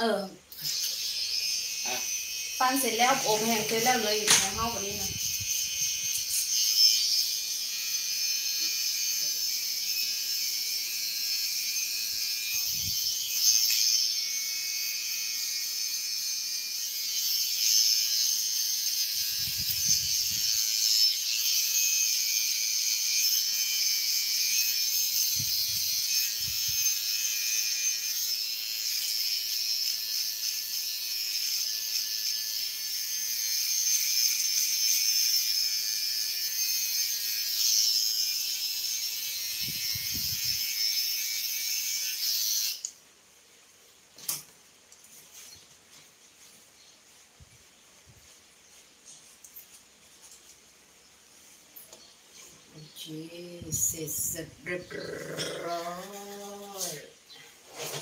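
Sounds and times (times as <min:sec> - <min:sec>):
hair trimmer buzzing: 0:00.0 - 0:43.0, 0:52.9 - 0:57.1.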